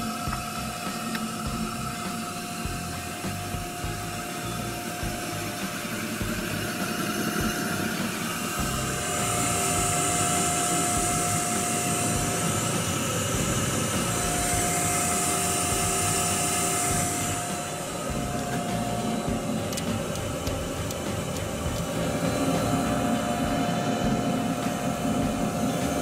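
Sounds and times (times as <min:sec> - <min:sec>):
machine motor humming with whine: 0:00.0 - 0:26.0.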